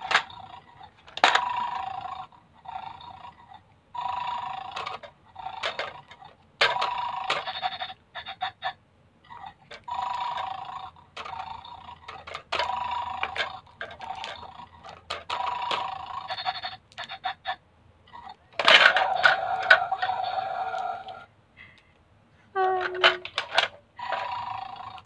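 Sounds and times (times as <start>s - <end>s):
electronic toy dog sounds: 0.0s - 21.3s, 22.6s - 25.0s.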